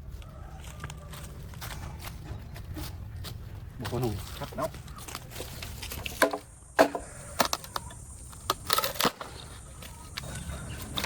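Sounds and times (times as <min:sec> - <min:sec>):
bamboo knocking and cracking: 0:00.6 - 0:10.2.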